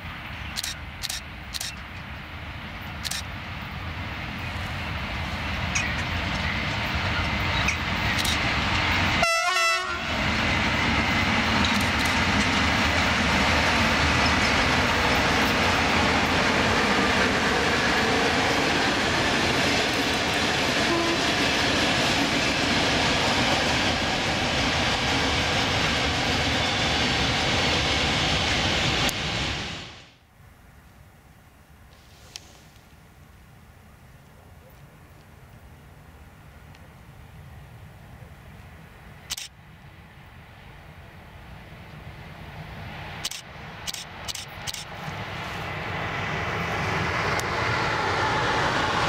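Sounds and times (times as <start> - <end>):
train wheels rumbling on rail: 0.0 - 30.2, 36.2 - 49.0.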